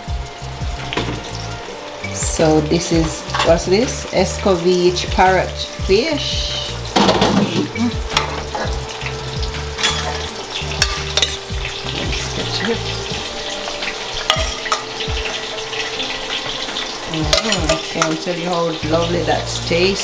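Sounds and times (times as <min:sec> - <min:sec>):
hot oil sizzling in a frying pan: 0:00.0 - 0:20.0.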